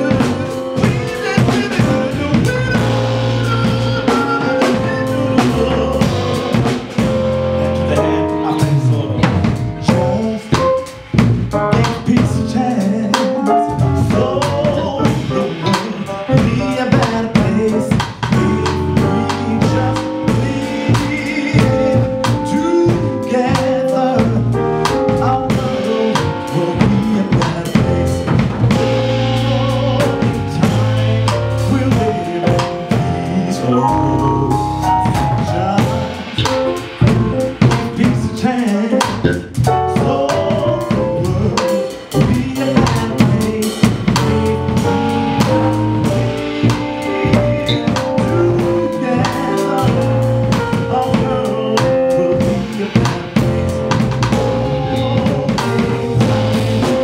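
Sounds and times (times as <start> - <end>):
jazz band playing: 0.0 - 57.0
man singing: 0.0 - 57.0.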